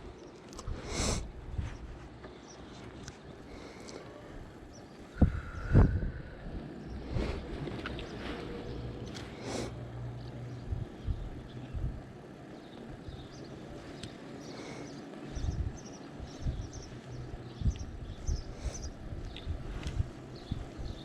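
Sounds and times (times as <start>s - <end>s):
wind rushing over microphone: 0.0s - 2.2s, 4.3s - 14.0s, 15.0s - 21.0s.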